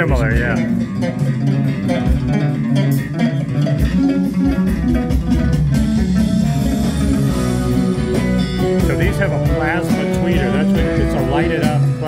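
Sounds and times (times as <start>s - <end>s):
guitar and bass music on loudspeakers: 0.0s - 12.0s.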